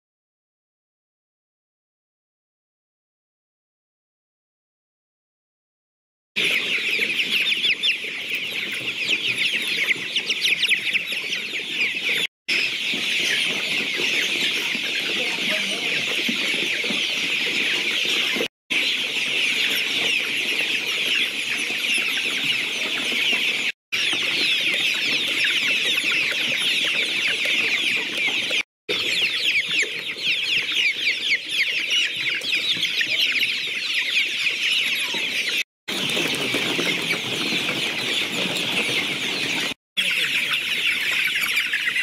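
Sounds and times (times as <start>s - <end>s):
chicks peeping and chirping: 6.4s - 42.0s.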